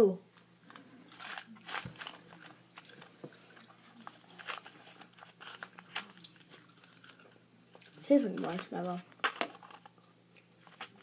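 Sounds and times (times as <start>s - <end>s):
person chewing: 0.6s - 8.0s, 9.1s - 11.0s.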